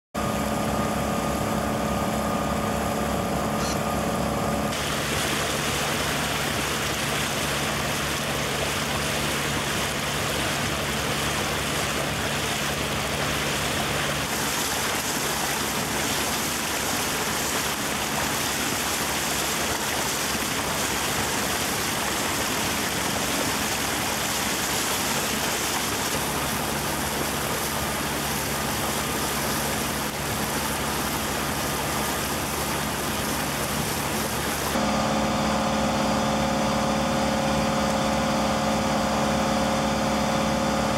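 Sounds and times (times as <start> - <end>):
boat engine droning: 0.2 - 40.9.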